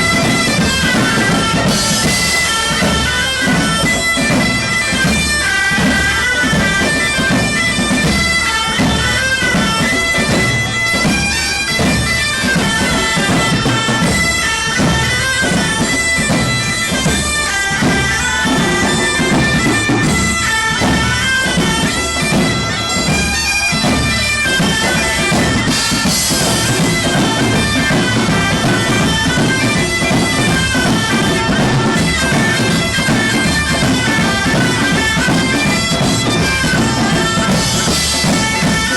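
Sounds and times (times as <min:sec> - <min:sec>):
steady drum beat: 0:00.0 - 0:38.9
wind instrument melody: 0:00.0 - 0:38.9.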